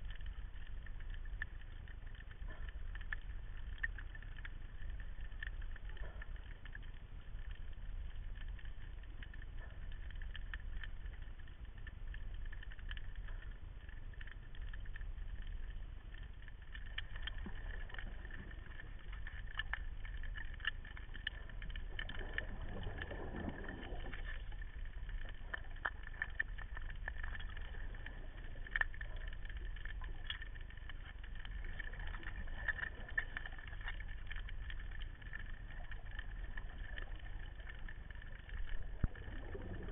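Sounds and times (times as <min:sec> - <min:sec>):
faint steady whine: 0:00.0 - 0:39.9
underwater low rumble: 0:00.0 - 0:39.9.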